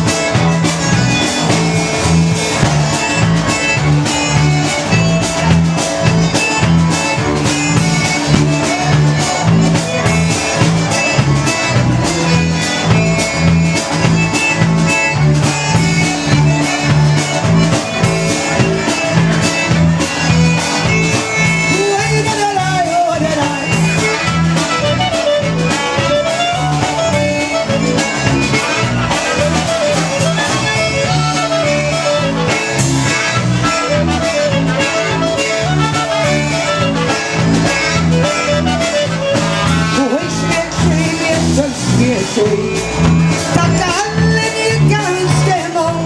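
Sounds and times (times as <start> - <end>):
live polka band playing: 0.0 - 46.0.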